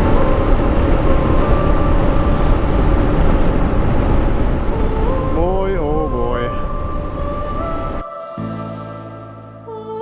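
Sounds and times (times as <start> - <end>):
wind noise rushing: 0.0 - 8.0.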